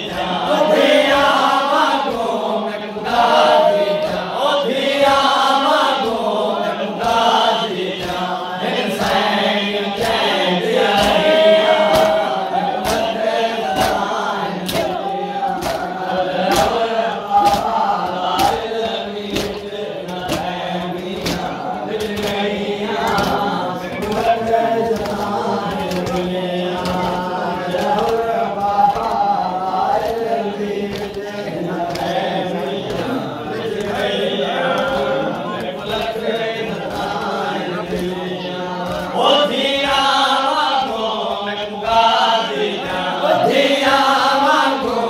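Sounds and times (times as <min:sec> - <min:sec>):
crowd of men chanting: 0:00.0 - 0:45.0
rhythmic chest-beating slaps: 0:00.0 - 0:45.0.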